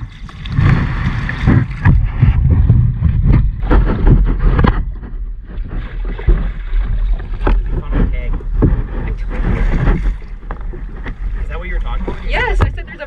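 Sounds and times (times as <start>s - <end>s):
paddle splashing through water: 0.0s - 13.0s
wind buffeting microphone: 0.0s - 13.0s.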